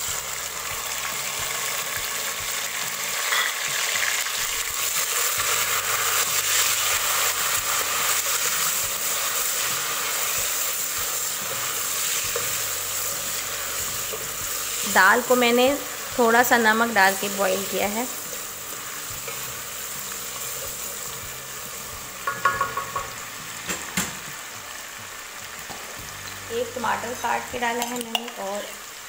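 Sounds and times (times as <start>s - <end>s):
vegetables sizzling in hot oil: 0.0s - 29.0s.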